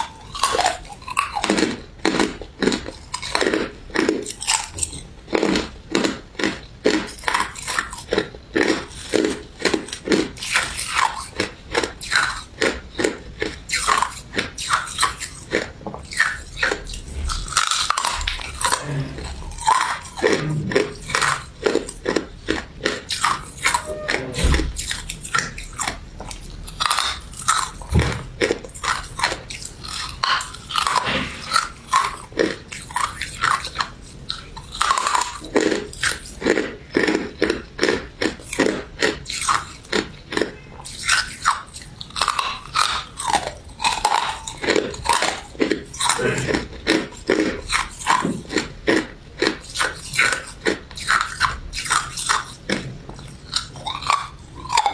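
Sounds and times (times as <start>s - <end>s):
crunching and chewing ice dessert: 0.0s - 54.9s.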